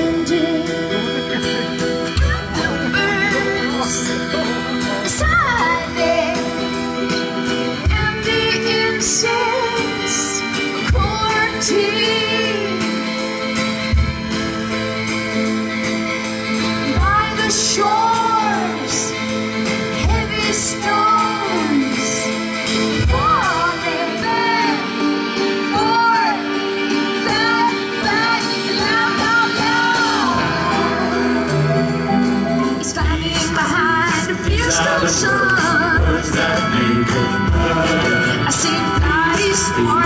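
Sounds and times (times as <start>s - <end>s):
woman singing: 0.0s - 1.3s, 2.1s - 13.2s, 16.8s - 37.0s, 37.6s - 40.0s
rock band playing: 0.0s - 40.0s.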